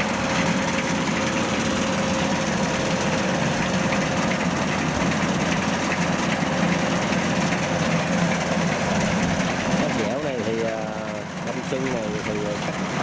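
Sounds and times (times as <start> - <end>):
combine harvester engine running: 0.0 - 13.0.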